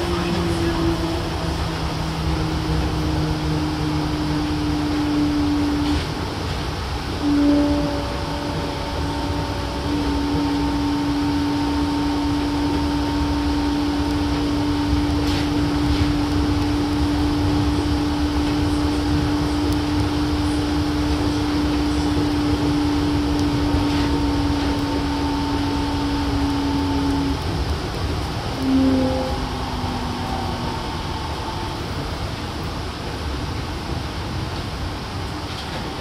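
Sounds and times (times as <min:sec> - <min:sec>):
rumble of tyres on guideway: 0:00.0 - 0:36.0.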